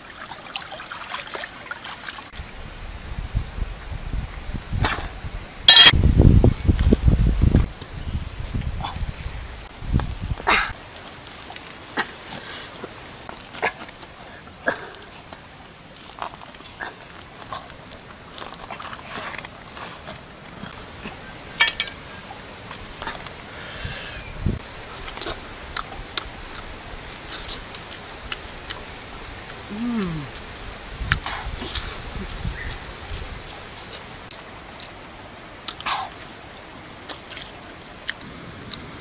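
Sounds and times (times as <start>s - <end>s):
insects buzzing high-pitched: 0.0s - 39.0s.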